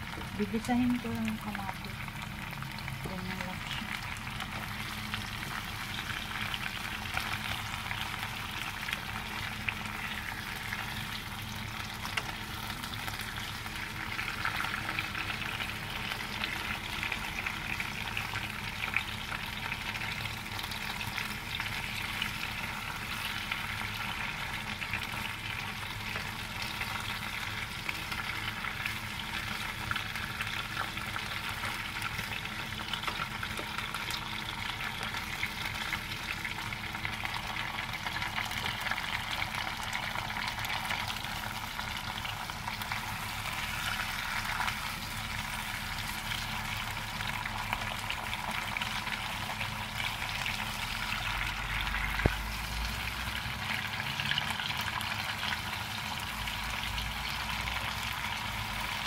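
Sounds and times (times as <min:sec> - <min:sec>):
vegetables sizzling in a pan: 0:00.0 - 0:59.0.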